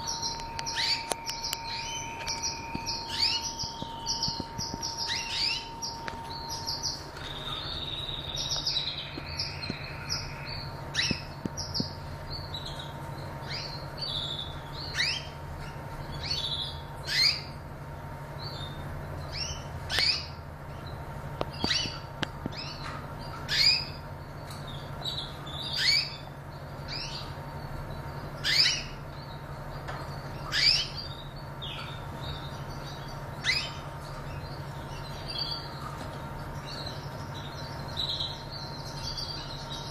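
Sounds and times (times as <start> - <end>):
canary chirping: 0.0 - 39.9
steady low hum: 0.0 - 39.9.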